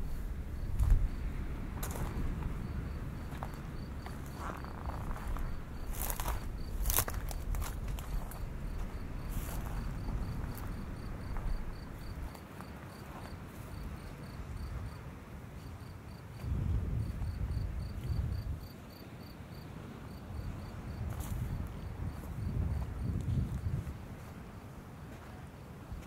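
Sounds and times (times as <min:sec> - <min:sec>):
insect chirping: 0:00.0 - 0:15.0, 0:15.8 - 0:22.8.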